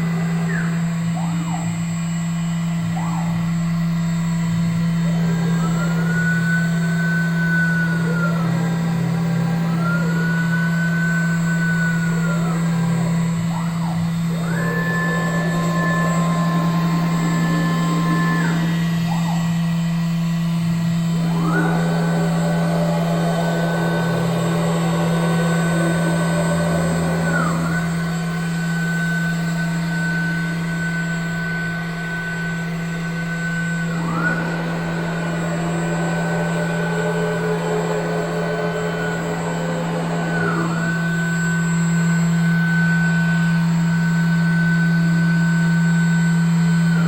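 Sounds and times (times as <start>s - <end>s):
cnc router spindle hum and whine: 0.0s - 47.0s.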